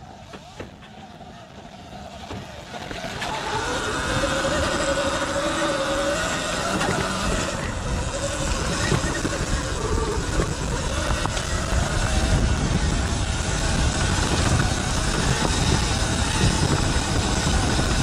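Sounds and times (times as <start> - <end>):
electric motor whine: 0.0 - 18.0
wind buffeting microphone: 2.2 - 18.0.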